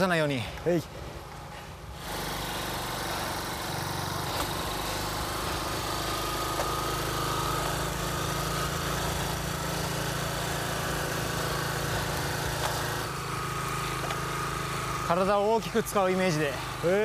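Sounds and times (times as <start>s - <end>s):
motorcycle engine running: 1.3s - 17.0s.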